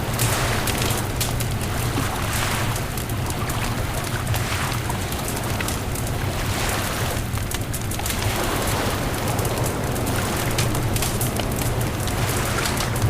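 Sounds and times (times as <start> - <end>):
waves rushing: 0.0 - 7.4, 8.0 - 13.0
bonfire crackling and popping: 0.0 - 13.0.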